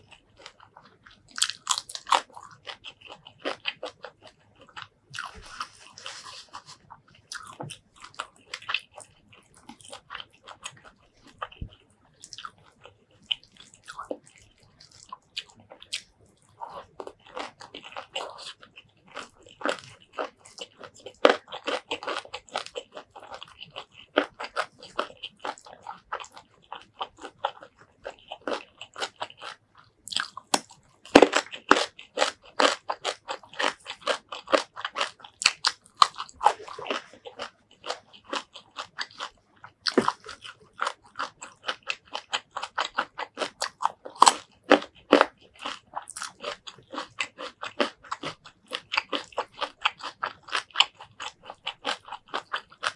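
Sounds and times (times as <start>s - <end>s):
wet chewing: 0.0s - 52.9s.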